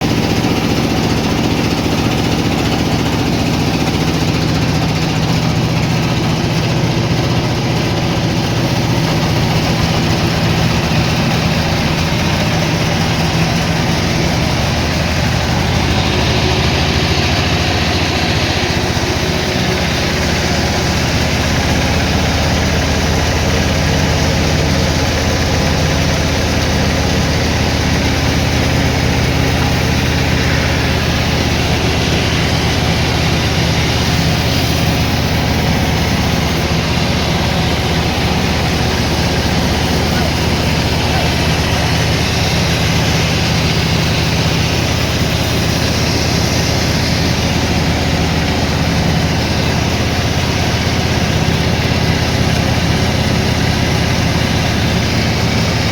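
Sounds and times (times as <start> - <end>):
heavy machinery engine drone: 0.0 - 55.9.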